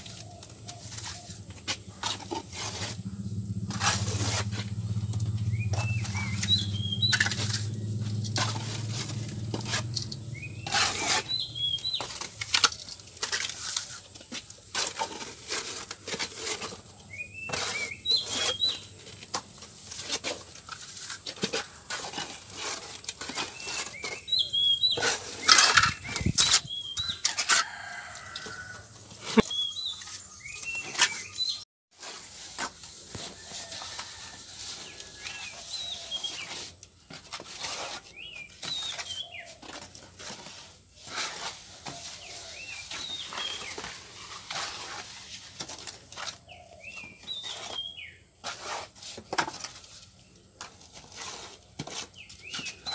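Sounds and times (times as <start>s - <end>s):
steel trowel scraping: 0.0s - 52.9s.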